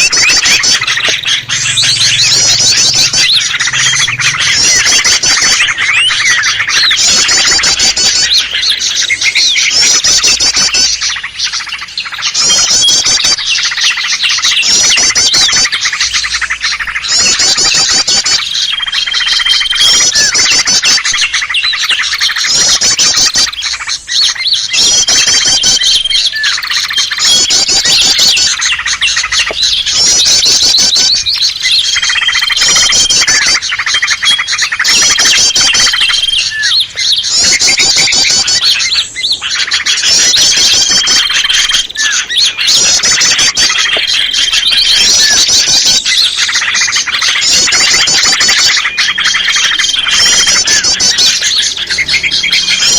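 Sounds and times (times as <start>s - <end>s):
chorus of small songbirds: 0.0s - 52.9s
fast high bird trills: 0.0s - 52.9s.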